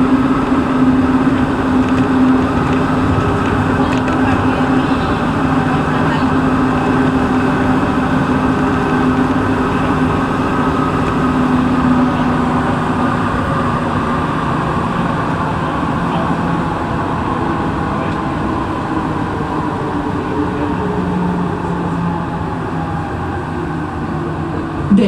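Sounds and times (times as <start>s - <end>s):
traction equipment hum: 0.0s - 25.0s
train rolling rumble: 0.0s - 25.0s.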